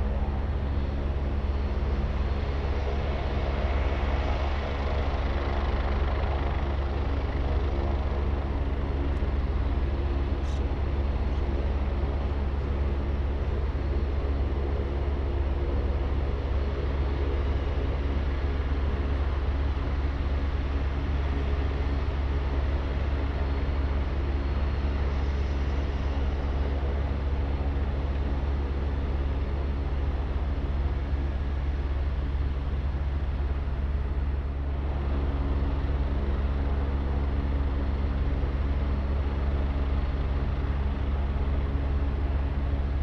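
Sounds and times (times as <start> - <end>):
helicopter turbine and rotor drone: 0.0 - 43.0.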